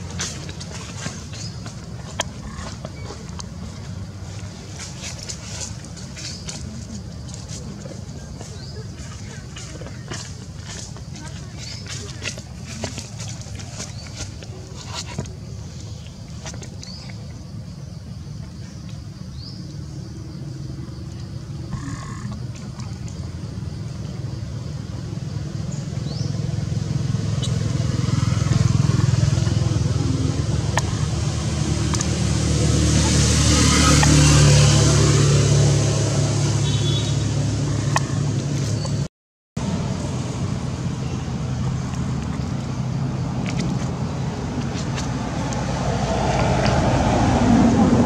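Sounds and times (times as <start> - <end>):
vehicle engine rumble: 0.0 - 48.0.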